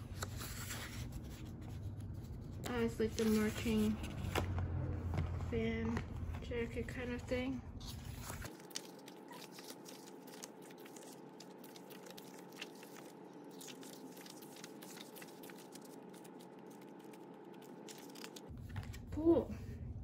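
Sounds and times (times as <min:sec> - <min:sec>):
book pages flipping: 0:00.0 - 0:06.4, 0:07.8 - 0:19.1.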